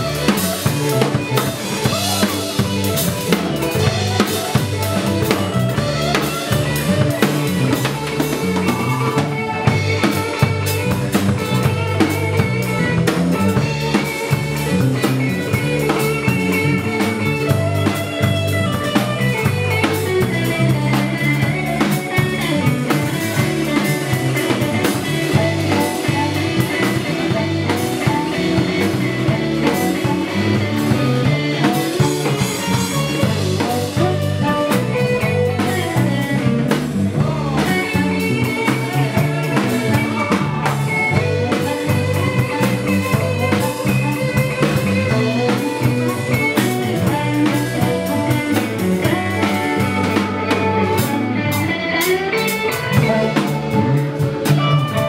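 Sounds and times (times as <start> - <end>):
harmonica through microphone: 0.0 - 55.0
live blues band playing: 0.0 - 55.0.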